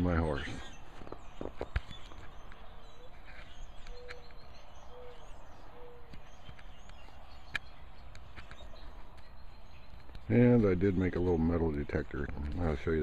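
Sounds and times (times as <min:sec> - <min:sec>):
distant bird chirps: 0:00.0 - 0:13.0
low background noise: 0:00.0 - 0:13.0.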